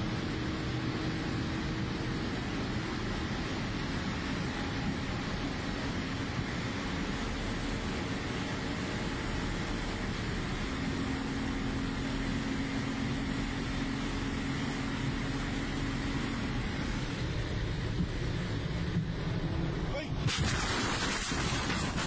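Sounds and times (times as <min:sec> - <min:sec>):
car engine drone: 0:00.0 - 0:22.0
road and wind rumble: 0:00.0 - 0:22.0.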